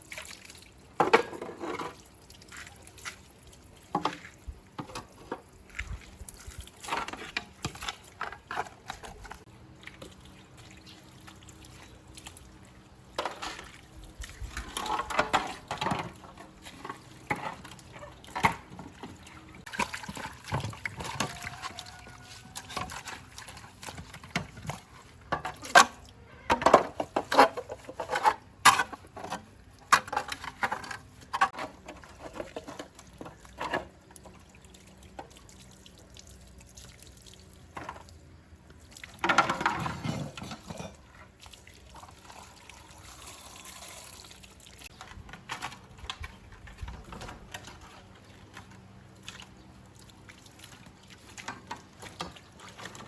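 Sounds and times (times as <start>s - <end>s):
liquid splashing and trickling: 0.0s - 53.0s.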